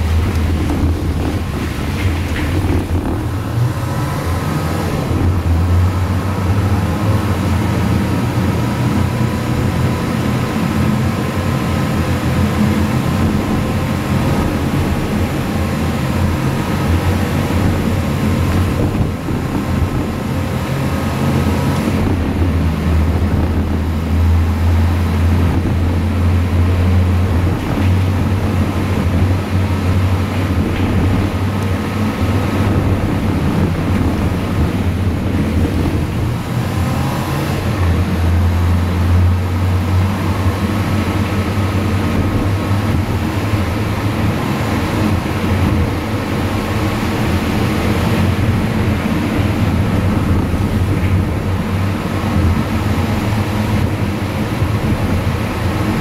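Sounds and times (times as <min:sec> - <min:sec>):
car engine running: 0:00.0 - 0:56.0
tyres rolling over dirt track: 0:00.0 - 0:56.0.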